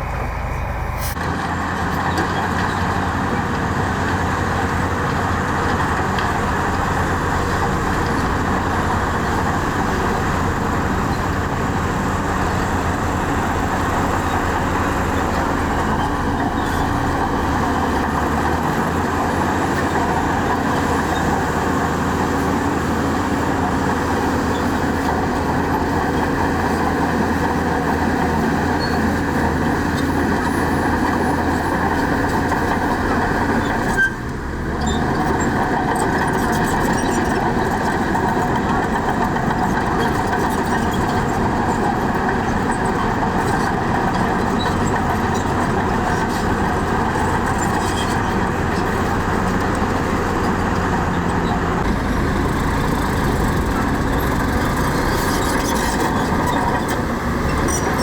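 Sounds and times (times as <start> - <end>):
diesel earthmoving machinery running: 0.0 - 58.0.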